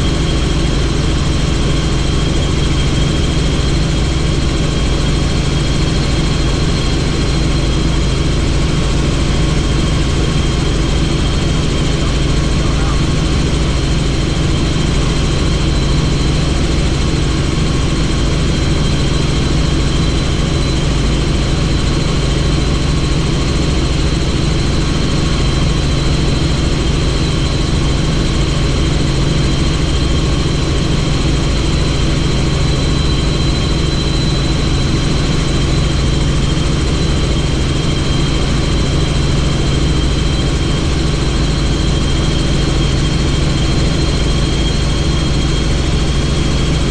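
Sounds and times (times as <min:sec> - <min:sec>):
helicopter rotor and engine drone: 0:00.0 - 0:46.9.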